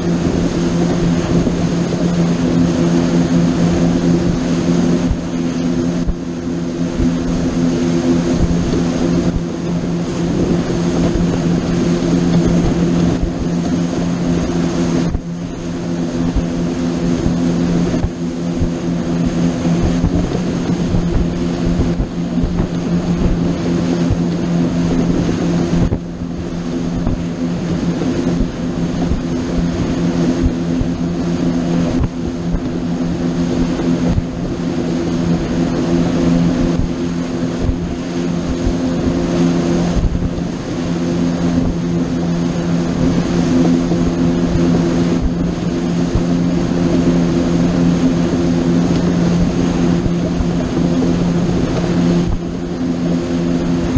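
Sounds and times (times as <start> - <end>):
boat engine droning: 0.0 - 53.9.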